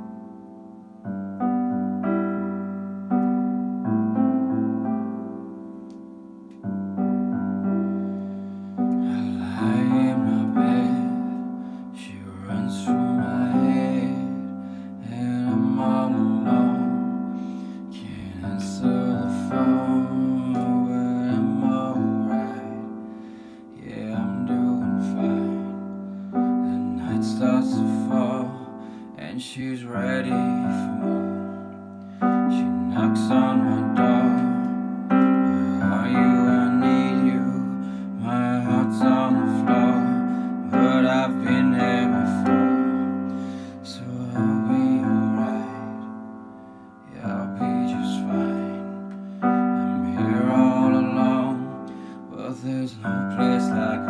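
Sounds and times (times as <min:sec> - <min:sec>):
keyboard melody line: 0:00.0 - 0:29.3, 0:29.9 - 0:54.0
electronic keyboard piano chords: 0:00.0 - 0:54.0.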